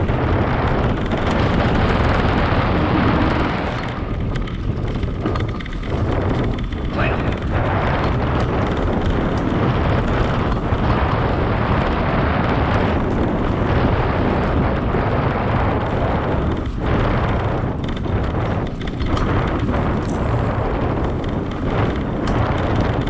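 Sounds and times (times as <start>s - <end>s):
bike riding rumble: 0.0s - 23.0s
wind buffeting microphone: 0.0s - 23.0s.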